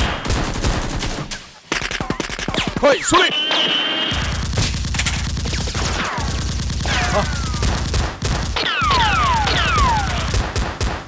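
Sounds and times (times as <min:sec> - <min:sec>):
automatic gunfire: 0:00.0 - 0:03.1, 0:04.1 - 0:11.0.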